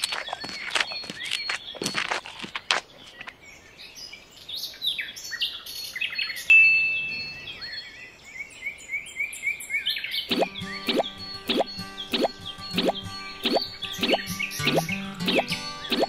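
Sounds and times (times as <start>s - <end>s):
birds chirping and twittering: 0.0s - 16.0s.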